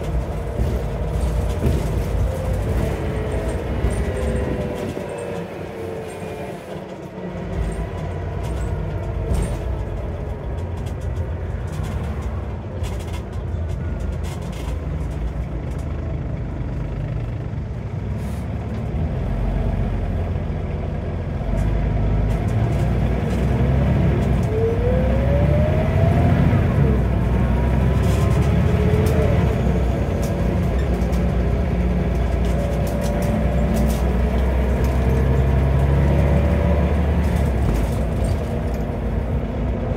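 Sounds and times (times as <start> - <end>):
bus diesel engine pulling: 0.0 - 39.9.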